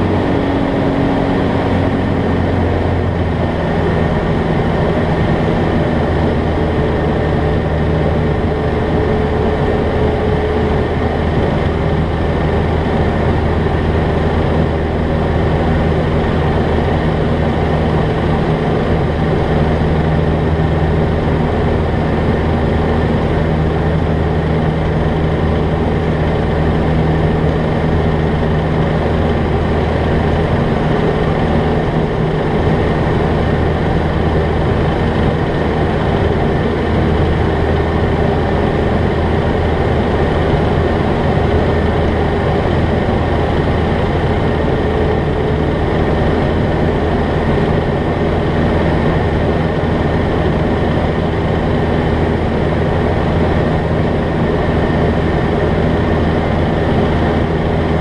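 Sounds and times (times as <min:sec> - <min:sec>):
aircraft engine and propeller droning: 0:00.0 - 0:58.0.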